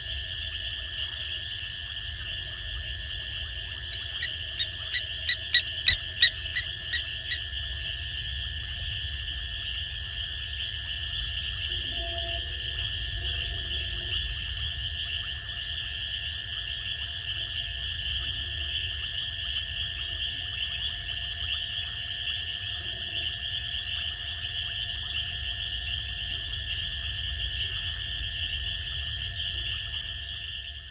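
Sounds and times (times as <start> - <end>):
crickets trilling: 0.0 - 30.9
frogs trilling: 0.0 - 30.9.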